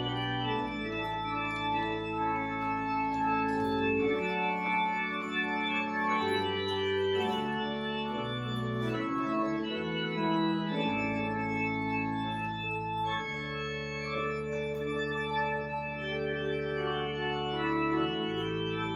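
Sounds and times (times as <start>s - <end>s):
organ playing sustained chords: 0.0s - 18.9s.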